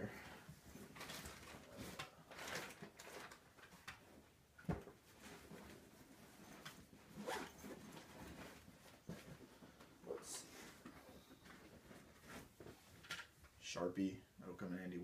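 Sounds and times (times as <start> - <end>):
faint rustling and handling: 0.0 - 14.9.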